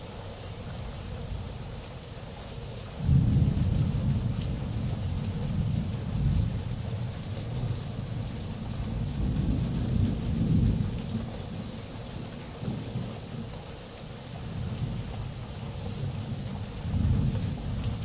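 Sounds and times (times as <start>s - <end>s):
heavy rain on concrete: 0.0s - 18.0s.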